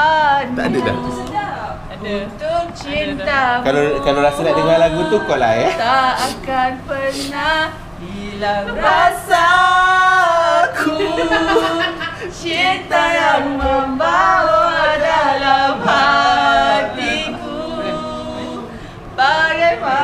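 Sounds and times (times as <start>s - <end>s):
women singing together: 0.0s - 20.0s.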